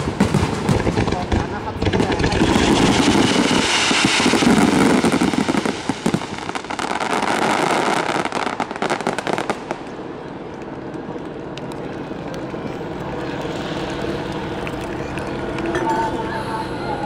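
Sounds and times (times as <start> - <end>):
fireworks bursting and crackling: 0.0 - 16.3.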